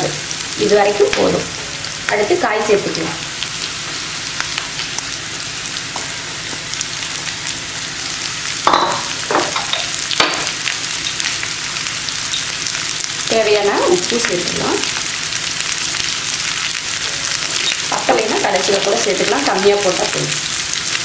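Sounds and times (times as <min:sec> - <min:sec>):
oil sizzling in a frying pan: 0:00.0 - 0:21.0.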